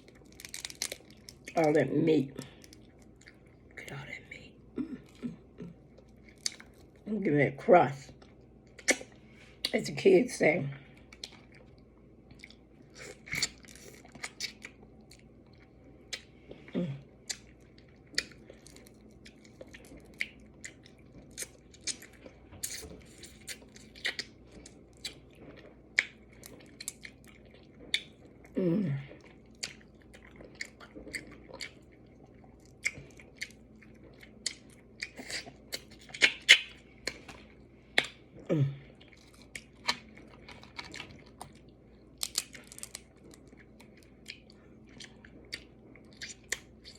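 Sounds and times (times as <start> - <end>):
person chewing crab: 0.0 - 1.8, 2.4 - 3.8, 4.8 - 7.0, 8.2 - 9.7, 11.0 - 46.9.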